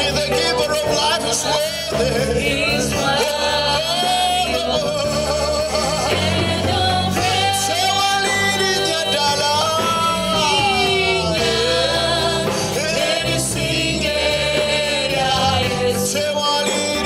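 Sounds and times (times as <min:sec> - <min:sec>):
man singing into a microphone: 0:00.0 - 0:06.5, 0:07.2 - 0:17.0.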